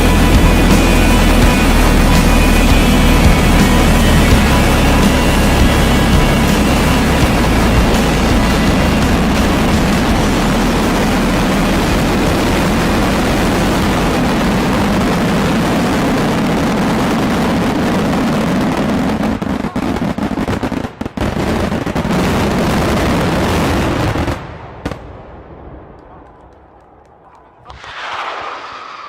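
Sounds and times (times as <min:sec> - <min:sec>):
fireworks barrage: 0:00.0 - 0:29.0.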